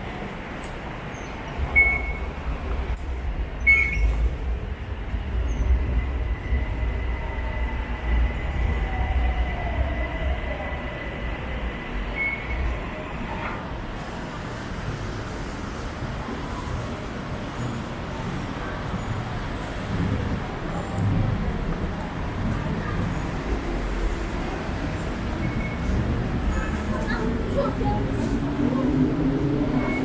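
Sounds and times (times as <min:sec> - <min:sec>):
train rumbling on elevated track: 0:00.0 - 0:30.0.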